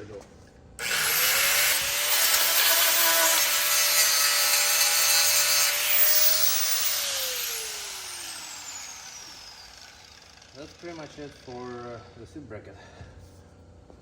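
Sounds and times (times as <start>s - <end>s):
power tool grinding metal: 0.8s - 12.3s.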